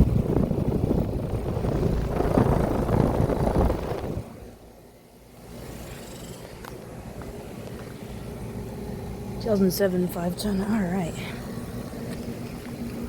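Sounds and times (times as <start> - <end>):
air conditioner unit running: 0.0 - 13.0.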